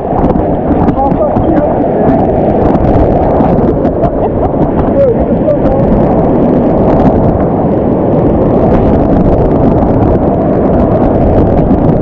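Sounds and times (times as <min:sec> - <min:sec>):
rapids churning water: 0:00.0 - 0:12.0
water splashes: 0:00.0 - 0:12.0
wind noise on microphone: 0:00.0 - 0:12.0.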